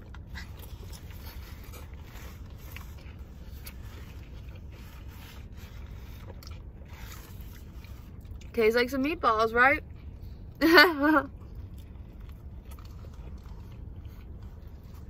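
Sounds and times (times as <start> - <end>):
people chewing sandwiches: 0.0 - 15.0
steady low hum: 0.0 - 15.0.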